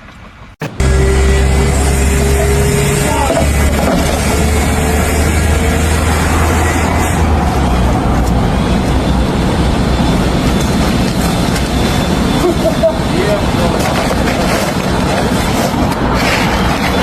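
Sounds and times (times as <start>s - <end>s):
loud engine noise: 0.4s - 17.0s
low hum: 0.6s - 17.0s.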